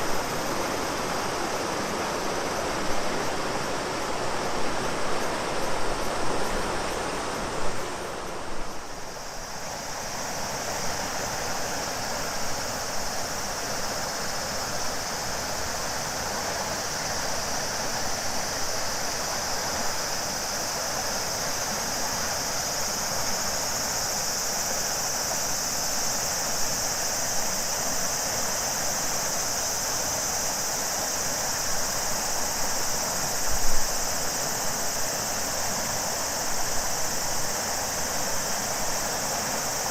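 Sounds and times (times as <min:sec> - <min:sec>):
cicadas buzzing: 0:00.0 - 0:39.9
river flowing: 0:00.0 - 0:39.9.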